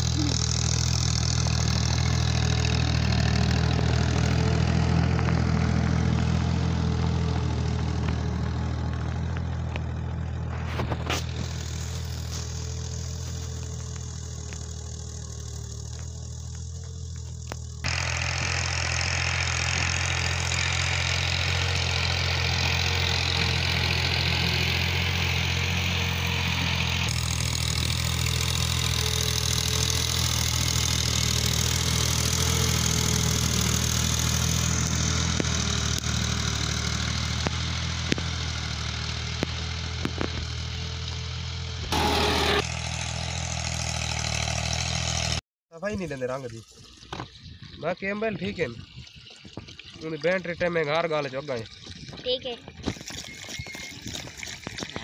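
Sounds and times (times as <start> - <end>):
tractor engine running: 0.0 - 46.2, 46.9 - 55.0.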